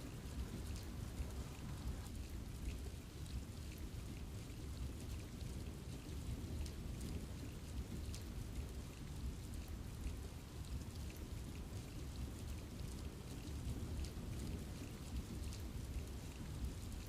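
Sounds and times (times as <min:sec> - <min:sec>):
rain falling on trees: 0:00.0 - 0:17.0.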